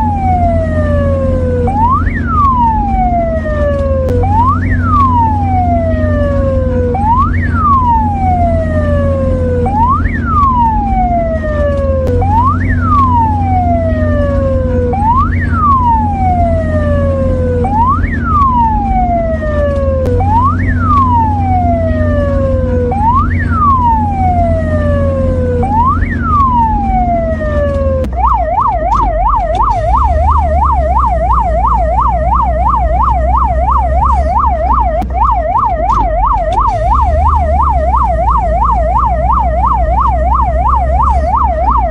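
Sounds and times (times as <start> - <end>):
ambulance siren: 0.0 - 41.9.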